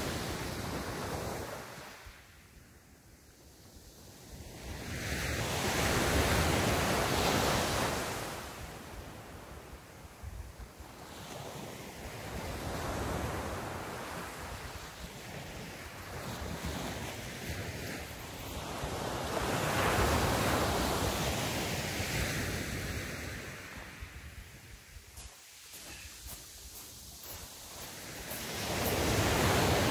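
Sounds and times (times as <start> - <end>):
small waves breaking on beach: 0.0 - 2.5, 3.4 - 29.9.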